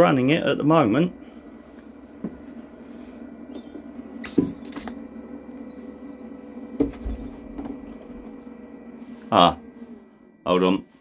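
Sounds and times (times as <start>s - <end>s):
cooling fan whirring: 0.0s - 11.0s.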